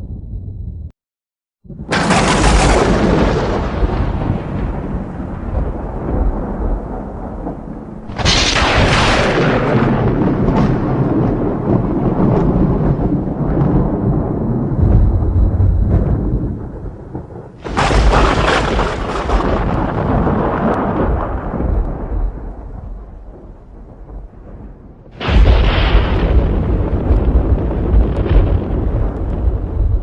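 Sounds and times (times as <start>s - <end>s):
low thunder rumble: 0.0s - 0.9s, 1.6s - 30.0s
thunder claps: 1.6s - 30.0s.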